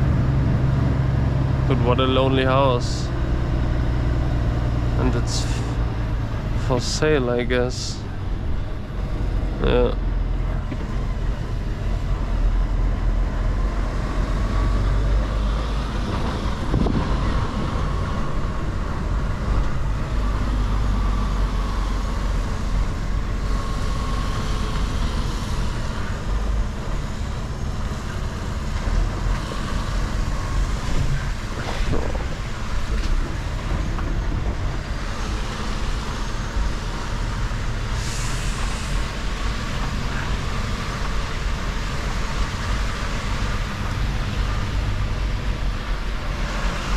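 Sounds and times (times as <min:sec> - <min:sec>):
road and wind noise: 0:00.0 - 0:46.9
truck diesel engine running: 0:00.0 - 0:46.9.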